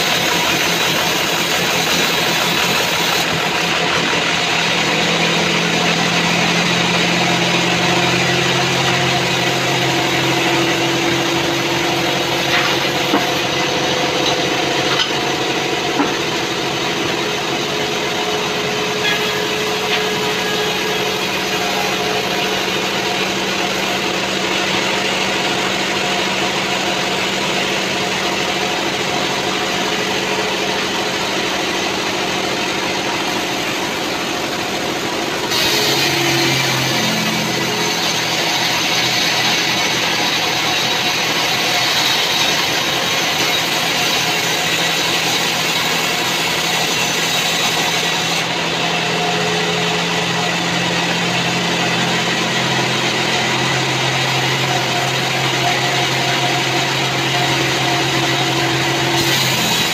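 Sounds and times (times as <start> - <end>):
saw blade cutting wood: 0.0 - 59.9
sawmill machine hum: 0.0 - 59.9.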